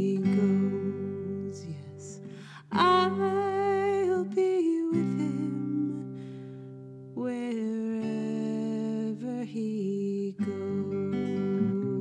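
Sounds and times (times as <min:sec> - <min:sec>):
acoustic guitar folk tune: 0:00.0 - 0:12.0.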